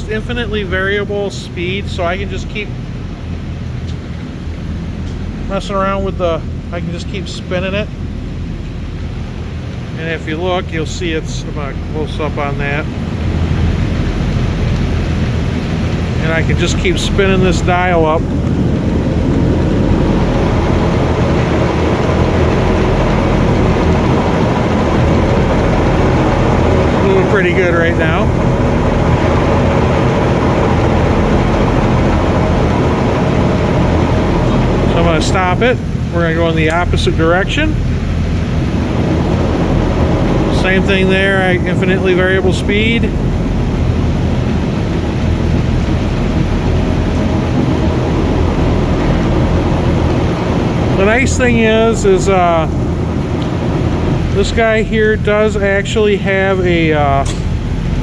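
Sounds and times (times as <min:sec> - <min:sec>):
motor and gearing humming: 0:00.0 - 0:58.0.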